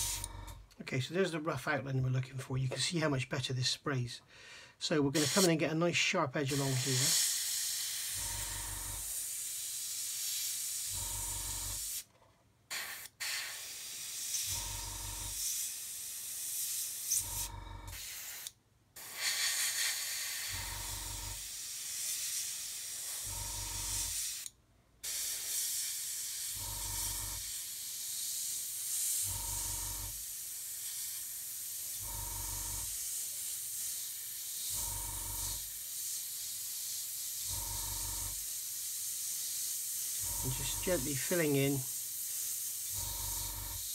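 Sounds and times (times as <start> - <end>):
airbrush hissing: 0.0 - 0.4, 4.8 - 5.8, 6.4 - 12.1, 12.7 - 43.9.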